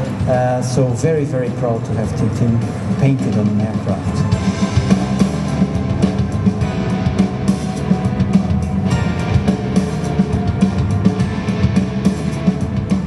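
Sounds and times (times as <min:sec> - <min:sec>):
rock music with drums and guitar: 0:00.0 - 0:13.0.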